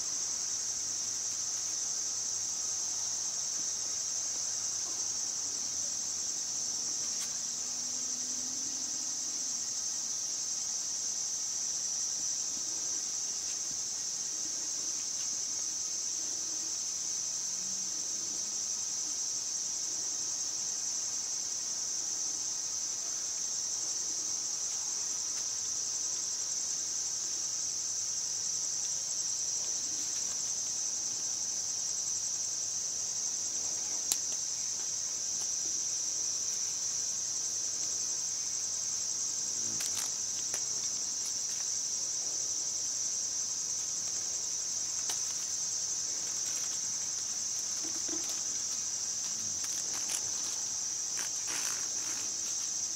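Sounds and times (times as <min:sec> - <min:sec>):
insect chorus trilling: 0:00.0 - 0:52.9.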